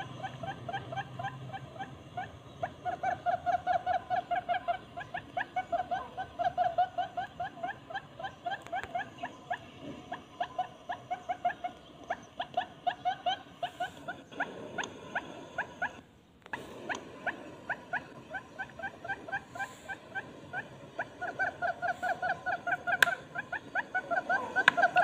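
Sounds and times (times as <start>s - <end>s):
buttonquail calling: 0.0s - 25.0s.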